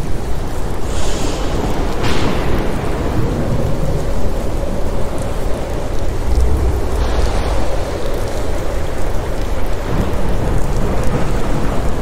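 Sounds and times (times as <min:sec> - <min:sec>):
steady rain: 0:00.0 - 0:12.0
thunder rumble: 0:00.0 - 0:12.0.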